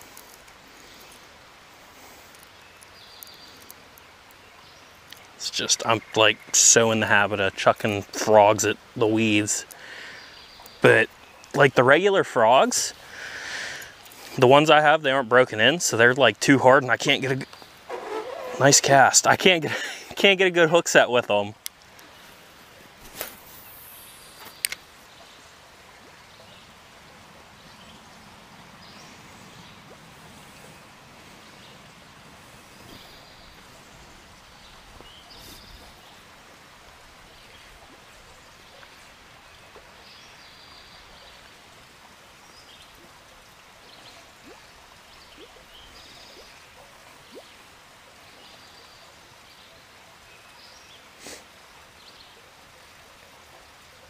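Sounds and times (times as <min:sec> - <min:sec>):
faint background hiss: 0:00.0 - 0:54.0.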